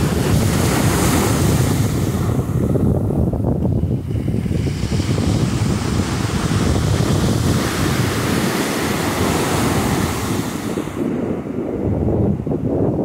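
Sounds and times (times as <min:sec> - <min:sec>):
waves breaking on beach: 0:00.0 - 0:12.2
wind buffeting microphone: 0:00.0 - 0:13.0.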